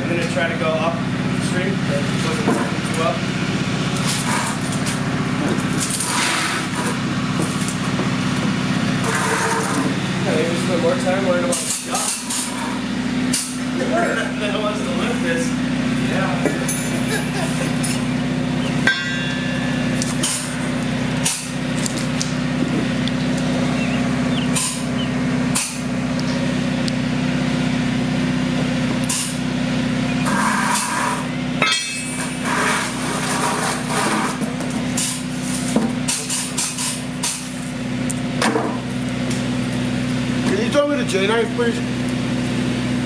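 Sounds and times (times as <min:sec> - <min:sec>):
machinery droning: 0:00.0 - 0:43.0.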